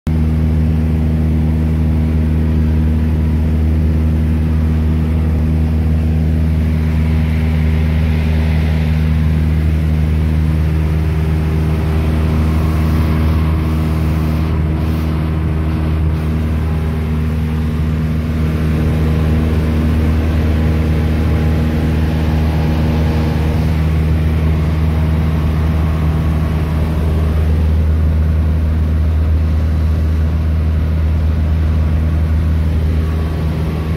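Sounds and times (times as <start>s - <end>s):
propeller engine droning: 0.1s - 33.9s.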